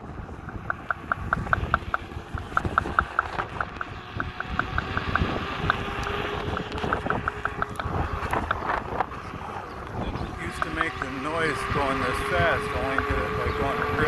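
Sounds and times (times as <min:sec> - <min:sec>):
hub motor knocking clicks: 0:00.0 - 0:14.0
wind and road noise: 0:00.0 - 0:14.0.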